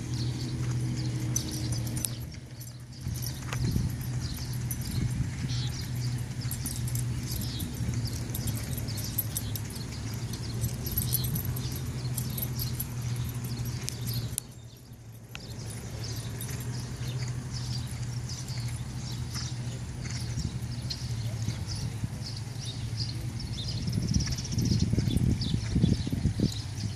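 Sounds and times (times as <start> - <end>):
horse hooves clip-clopping: 0.0 - 26.9
steady low hum: 0.0 - 26.9.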